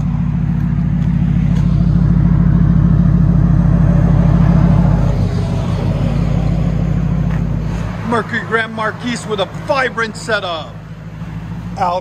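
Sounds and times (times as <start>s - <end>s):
car engine idle rumble: 0.0s - 12.0s.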